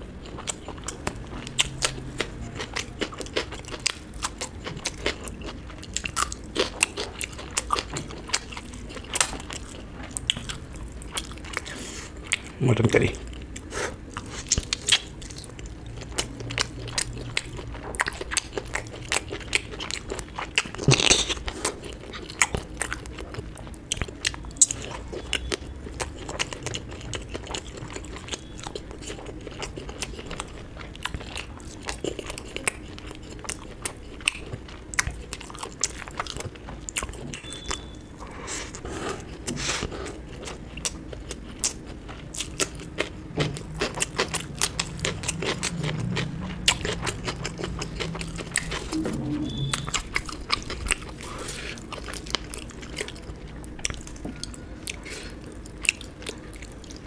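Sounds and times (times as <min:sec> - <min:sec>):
person chewing and biting: 0:00.1 - 0:12.5, 0:13.2 - 0:57.0.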